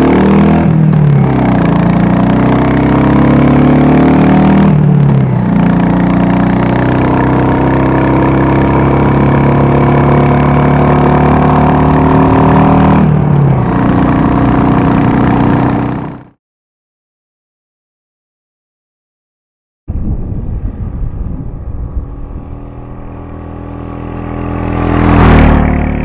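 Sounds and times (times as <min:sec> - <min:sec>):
motorcycle engine revving: 0:00.0 - 0:16.4, 0:20.0 - 0:26.0.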